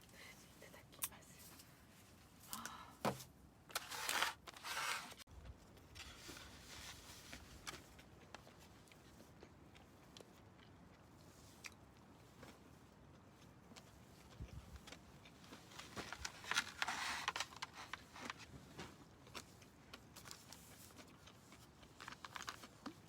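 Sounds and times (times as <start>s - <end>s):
rustling and crunching: 3.2s - 23.0s.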